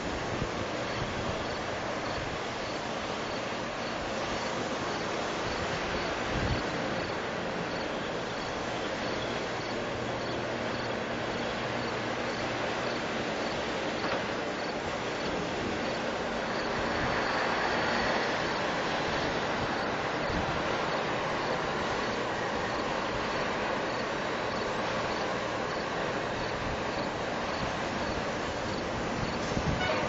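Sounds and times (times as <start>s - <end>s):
machinery hissing drone: 0.0s - 30.0s.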